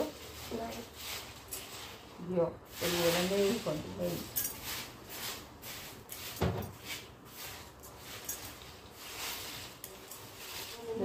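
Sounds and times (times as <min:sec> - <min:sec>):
comb swishing through hair: 0:00.0 - 0:11.0.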